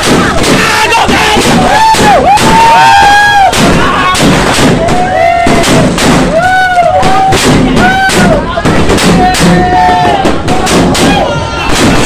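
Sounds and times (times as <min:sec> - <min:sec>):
fireworks bangs and crackle: 0:00.0 - 0:12.0.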